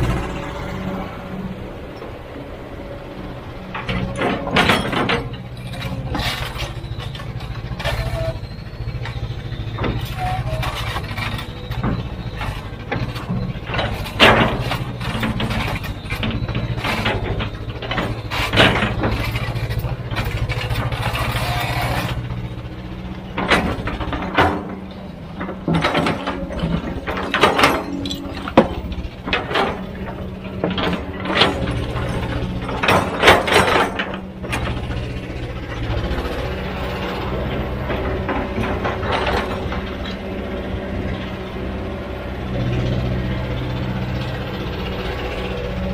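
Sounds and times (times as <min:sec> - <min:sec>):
diesel engine running under load: 0:00.0 - 0:45.9
metallic clanks and knocks: 0:03.2 - 0:45.9.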